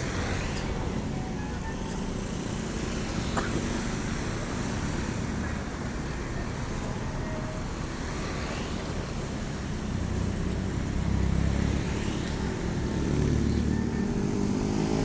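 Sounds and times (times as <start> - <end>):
road traffic and buses rumbling: 0.0 - 15.0.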